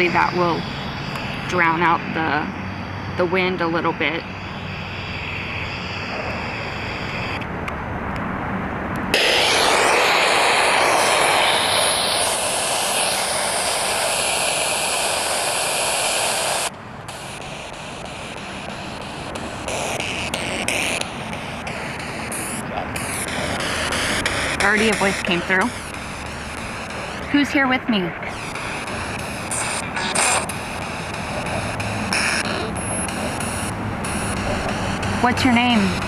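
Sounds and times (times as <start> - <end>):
radio static hiss: 0.0 - 7.5, 9.1 - 36.0
wind on microphone: 0.0 - 36.0.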